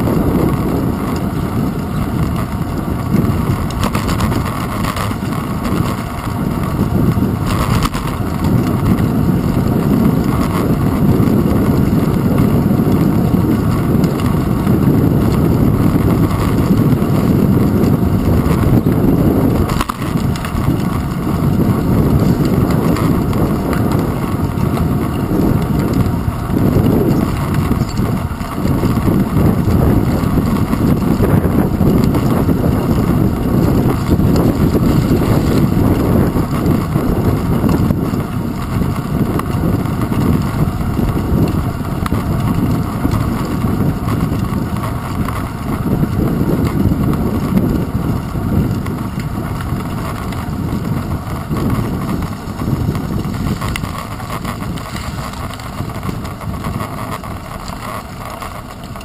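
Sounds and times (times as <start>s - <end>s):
bicycle tyres rumbling on asphalt: 0.0s - 59.0s
camera housing rattle: 0.5s - 59.0s.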